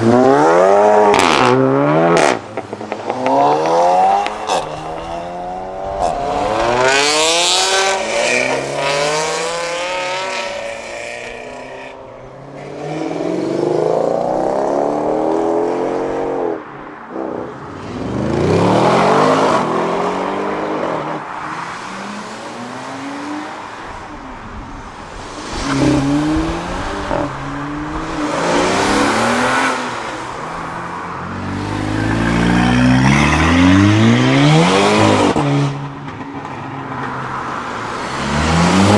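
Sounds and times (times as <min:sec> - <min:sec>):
sports cars accelerating hard: 0:00.0 - 0:24.3, 0:25.2 - 0:35.9, 0:37.3 - 0:38.9.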